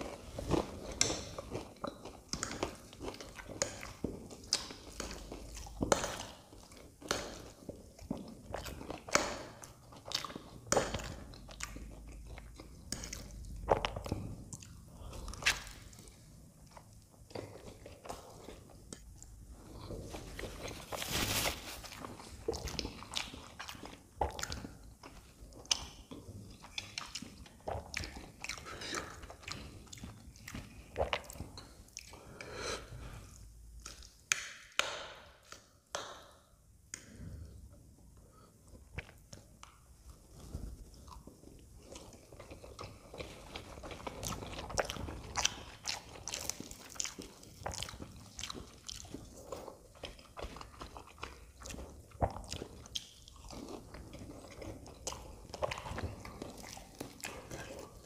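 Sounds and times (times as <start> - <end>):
wet chewing of noodles: 0.0 - 34.5, 38.3 - 58.0.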